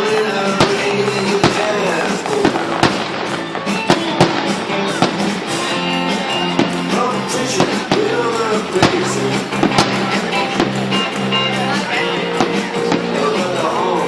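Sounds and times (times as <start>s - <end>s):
fireworks bangs: 0.0s - 14.0s
loud music: 0.0s - 14.0s.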